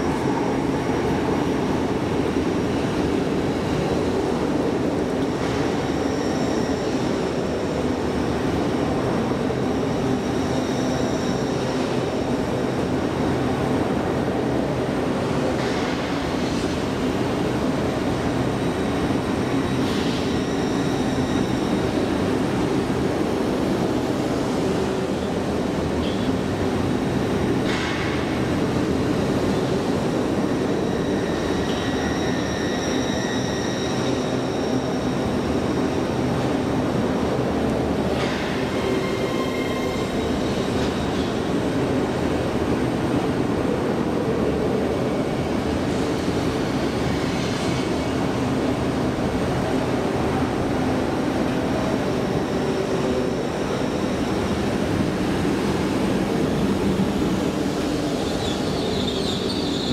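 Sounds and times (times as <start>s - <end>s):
train hum and rumble: 0.0s - 59.9s.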